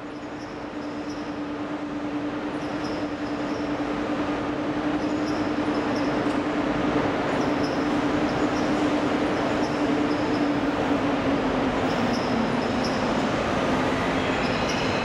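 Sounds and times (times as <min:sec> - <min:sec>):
electric train approaching: 0:00.0 - 0:15.0.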